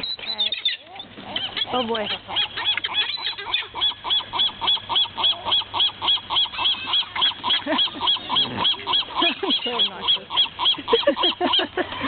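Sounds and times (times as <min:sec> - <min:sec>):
birds calling: 0:00.0 - 0:12.0
waterfowl honking: 0:00.0 - 0:12.0.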